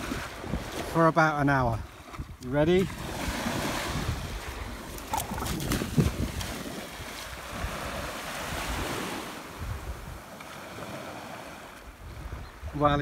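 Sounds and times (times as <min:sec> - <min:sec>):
wind buffeting microphone: 0:00.0 - 0:01.0, 0:01.6 - 0:13.0
small waves washing onto sand: 0:00.0 - 0:13.0.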